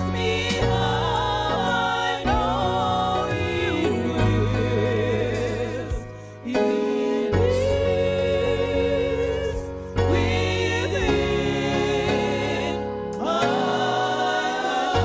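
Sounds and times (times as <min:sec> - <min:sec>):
instrumental backing music: 0:00.0 - 0:15.0
women singing together: 0:00.0 - 0:15.0.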